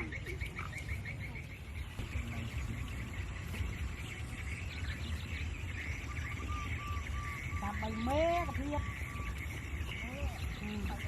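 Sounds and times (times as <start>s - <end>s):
birds chirping: 0.0s - 11.0s
insects chirping: 0.0s - 11.0s
steady low rumble: 0.0s - 11.0s.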